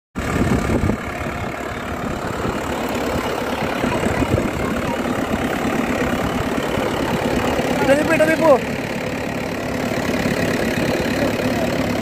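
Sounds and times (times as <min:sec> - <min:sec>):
tractor diesel engine running: 0:00.2 - 0:12.0.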